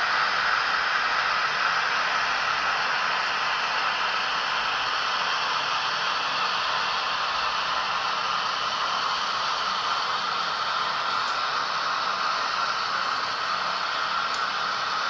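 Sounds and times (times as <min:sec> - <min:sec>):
model train whirring hiss: 0:00.0 - 0:15.0.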